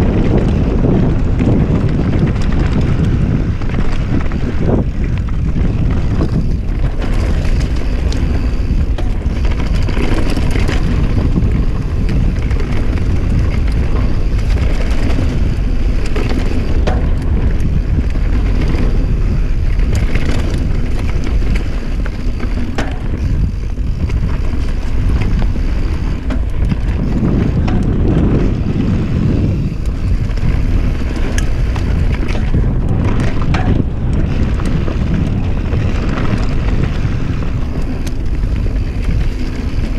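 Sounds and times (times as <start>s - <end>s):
bike rattling and knocking: 0.0s - 39.9s
tyres rolling over dirt: 0.0s - 39.9s
wind rumbling on microphone: 0.0s - 39.9s.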